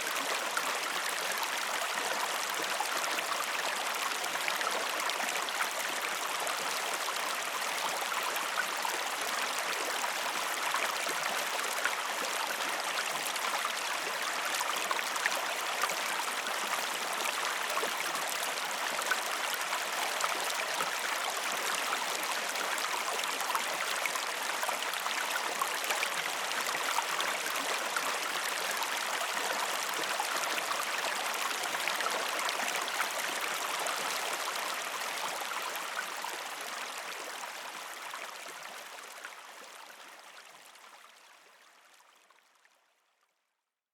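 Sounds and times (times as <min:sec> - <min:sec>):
stream water running: 0:00.0 - 0:41.2.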